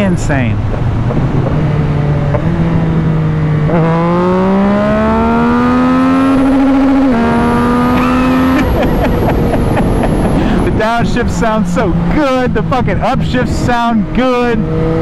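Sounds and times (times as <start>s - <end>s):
wind rush: 0.3s - 13.9s
motorcycle engine accelerating: 0.6s - 15.0s.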